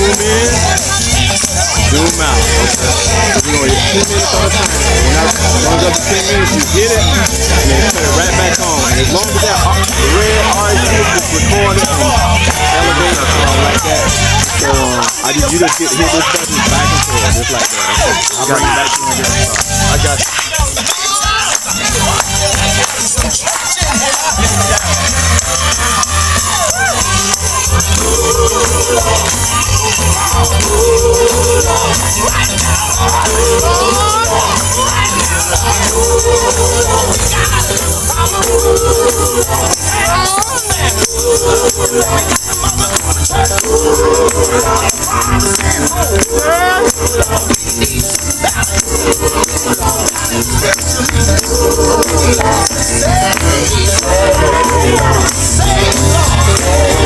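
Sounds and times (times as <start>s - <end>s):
gospel band playing: 0.0s - 57.0s
heavy bass beat: 0.0s - 57.0s
tambourine shaking: 0.0s - 57.0s
voices singing: 0.0s - 57.0s.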